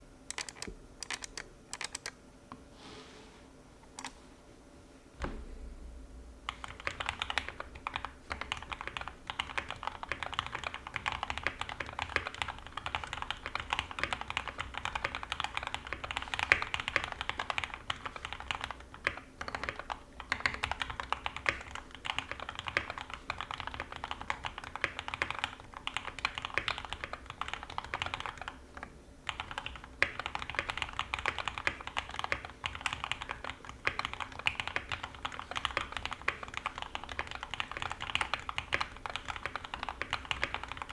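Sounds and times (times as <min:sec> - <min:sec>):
fast typing on mechanical keyboard: 0:00.3 - 0:02.1, 0:06.5 - 0:40.9.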